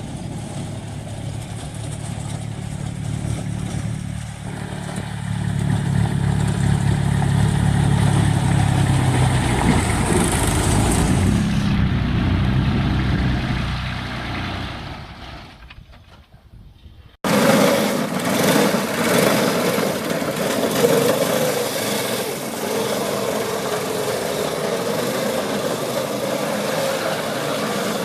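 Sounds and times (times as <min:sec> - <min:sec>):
engine running: 0:00.0 - 0:15.8, 0:17.3 - 0:28.0.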